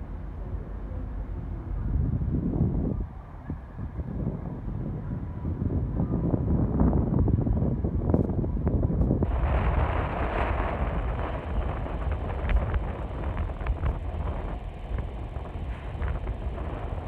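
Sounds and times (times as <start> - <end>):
train rumble: 0.0 - 17.0
wind buffeting microphone: 0.0 - 17.0.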